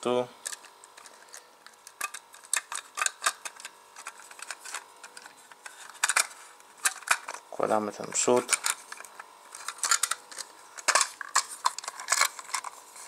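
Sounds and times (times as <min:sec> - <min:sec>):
plastic parts clicking: 0:00.4 - 0:07.4, 0:08.0 - 0:12.8.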